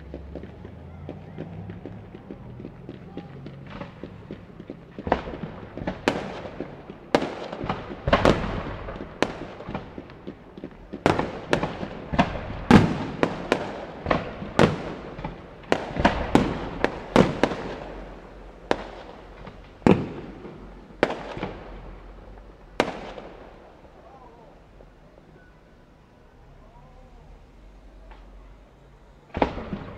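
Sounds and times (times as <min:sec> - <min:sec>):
fireworks bursting: 0:00.0 - 0:29.9.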